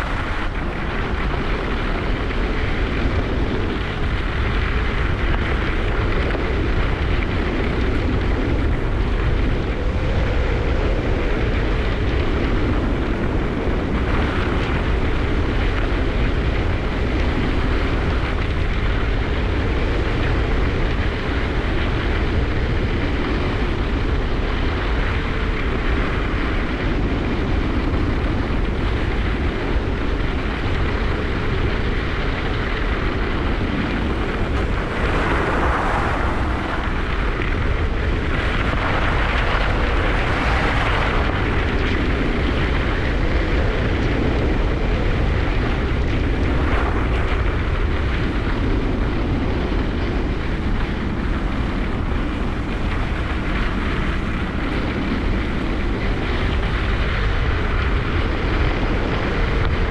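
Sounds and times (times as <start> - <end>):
skis running over snow: 0.0 - 59.9
wind buffeting microphone: 0.0 - 59.9.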